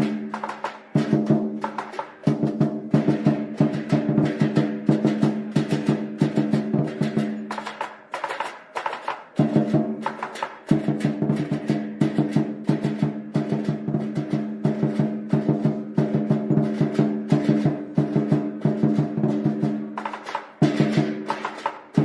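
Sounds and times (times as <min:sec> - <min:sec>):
drum beaten fast: 0:00.0 - 0:22.0.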